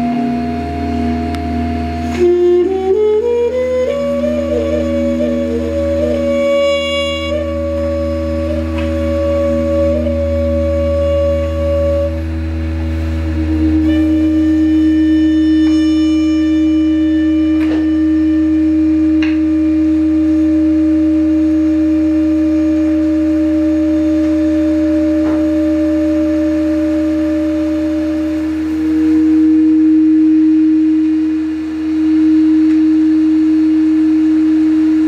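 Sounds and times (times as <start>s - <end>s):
held trumpet tone: 0.0s - 35.0s
low humming drone: 0.0s - 35.0s.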